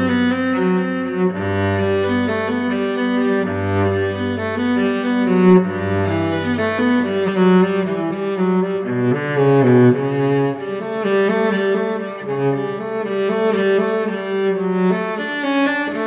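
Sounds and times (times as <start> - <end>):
bowed strings music: 0.0 - 16.0.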